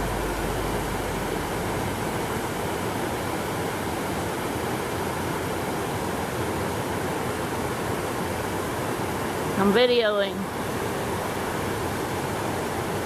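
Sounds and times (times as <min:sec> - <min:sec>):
small waterfalls rushing over rocks: 0:00.0 - 0:13.0.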